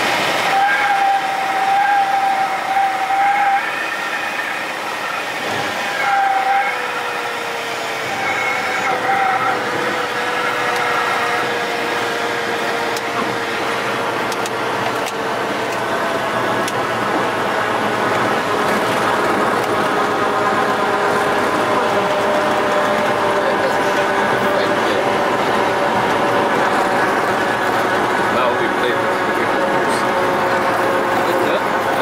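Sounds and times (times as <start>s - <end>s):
aircraft engine and propeller: 3.7s - 32.0s.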